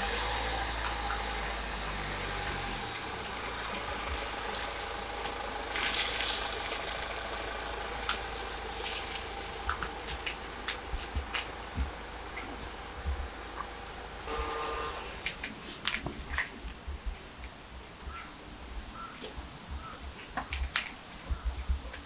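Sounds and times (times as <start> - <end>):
car engine humming: 0.0 - 20.4
traffic noise: 0.0 - 22.0.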